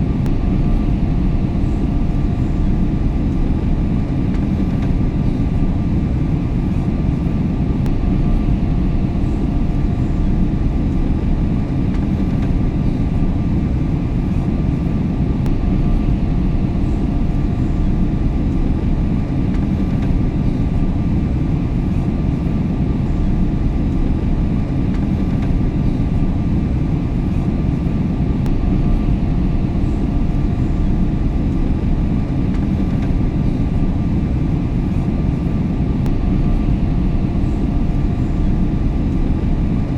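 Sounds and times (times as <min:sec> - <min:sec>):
engine and airflow rumble: 0:00.0 - 0:39.9
faint steady hum: 0:00.0 - 0:39.9.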